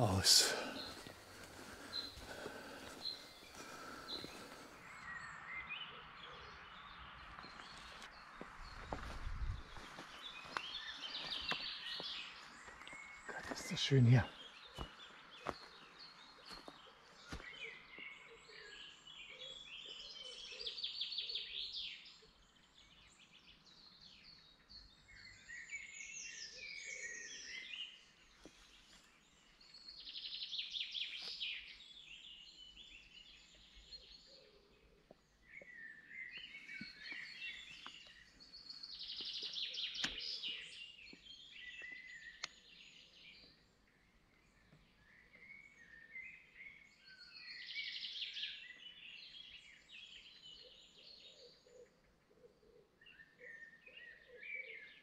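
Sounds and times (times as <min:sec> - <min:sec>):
songbirds trilling: 0:00.0 - 0:55.0.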